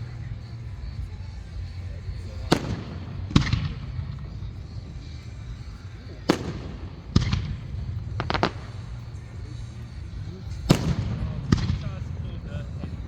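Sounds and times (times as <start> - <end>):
fireworks booming overhead: 0.0 - 13.0.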